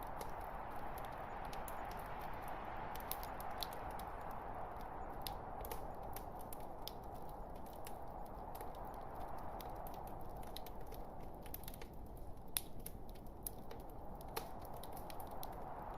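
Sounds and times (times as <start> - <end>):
log fire hissing and crackling: 0.0 - 15.9.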